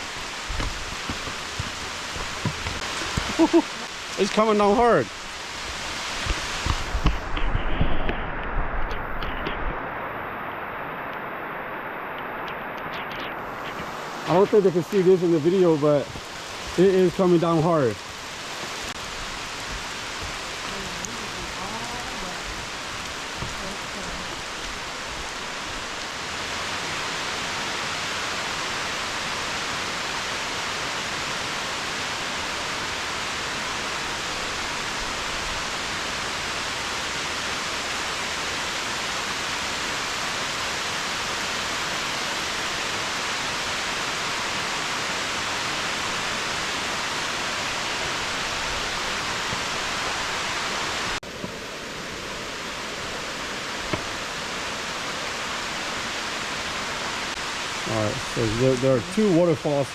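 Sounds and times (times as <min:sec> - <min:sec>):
waterfall rushing: 0:00.0 - 0:07.4, 0:09.8 - 0:59.9
heavy rain: 0:00.0 - 0:59.9.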